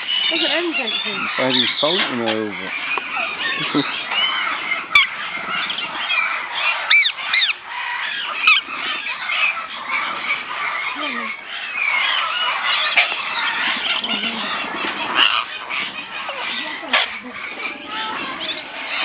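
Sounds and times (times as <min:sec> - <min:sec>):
loud arching parrot calls: 0:00.0 - 0:19.0
parrots squawking and screeching: 0:00.0 - 0:19.0.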